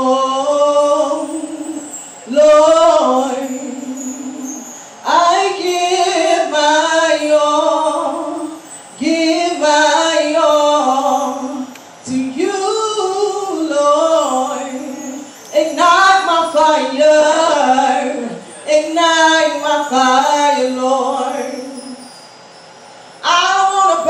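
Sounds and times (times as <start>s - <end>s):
person singing gospel: 0.0s - 22.1s, 23.2s - 24.0s.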